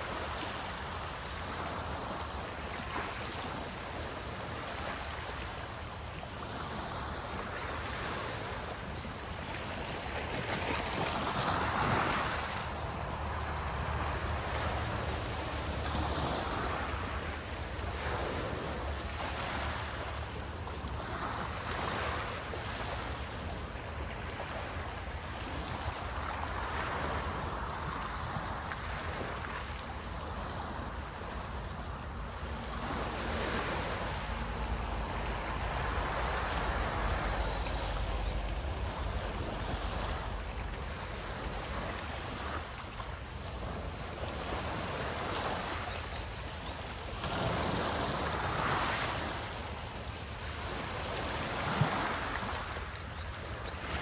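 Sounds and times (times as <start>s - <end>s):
wind rumble on microphone: 0.0s - 53.8s
small waves washing onto shore: 0.0s - 54.0s.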